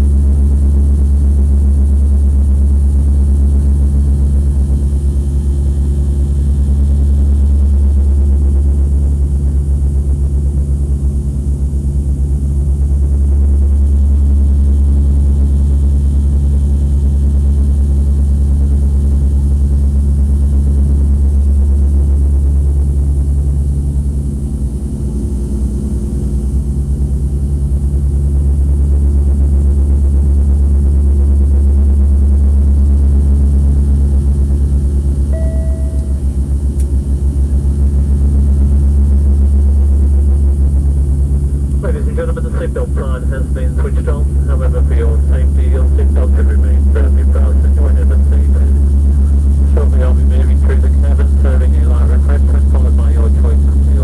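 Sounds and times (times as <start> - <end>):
aircraft engine cabin drone: 0.0 - 54.0.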